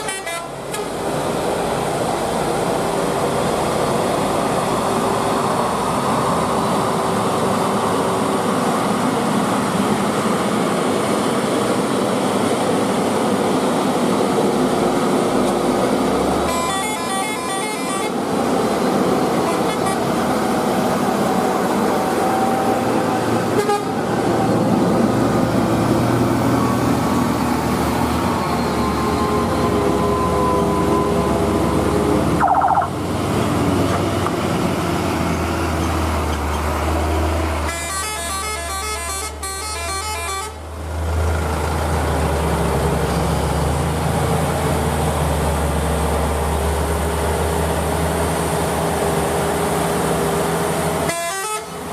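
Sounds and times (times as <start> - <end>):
heavy truck diesel engines droning: 0.0 - 51.9.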